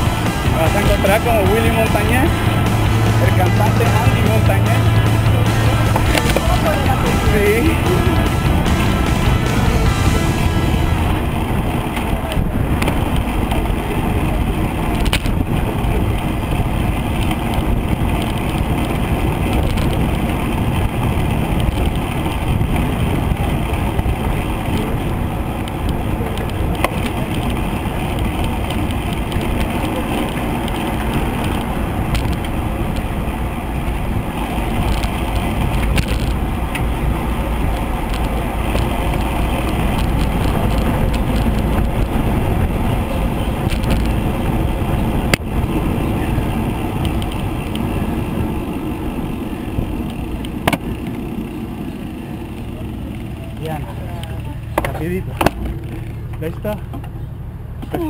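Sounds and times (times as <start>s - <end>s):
wind buffeting microphone: 0.0s - 56.7s
road and tyre noise: 0.0s - 58.0s.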